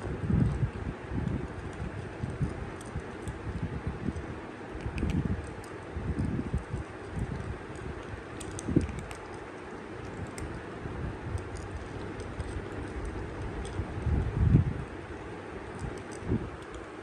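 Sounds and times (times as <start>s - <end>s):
kittens crunching dry kibble: 0.0s - 17.0s.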